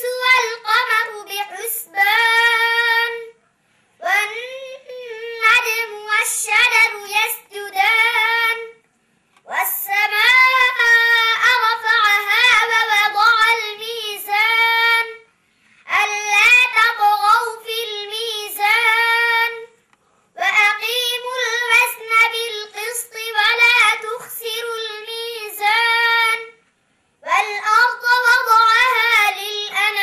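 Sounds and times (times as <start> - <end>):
boy chanting religious recitation: 0.0 - 3.4, 4.0 - 8.8, 9.4 - 19.8, 20.4 - 26.6, 27.2 - 30.0.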